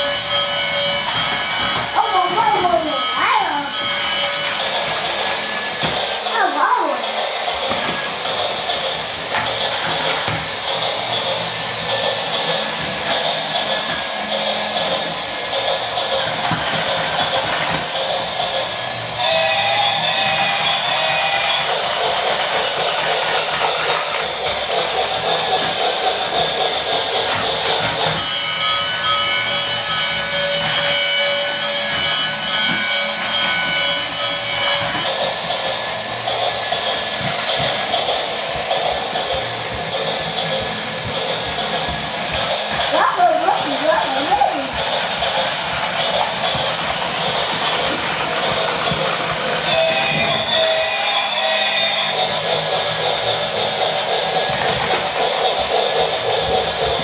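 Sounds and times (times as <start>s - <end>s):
toy locomotive motor whirring: 0.0s - 57.0s
wheels rubbing on wood: 0.0s - 57.0s.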